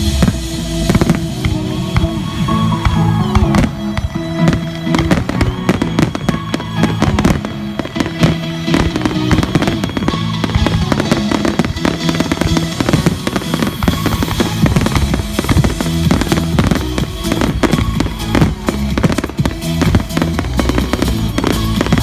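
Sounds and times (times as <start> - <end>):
fireworks bursting and crackling: 0.0 - 22.0
loud music: 0.0 - 22.0.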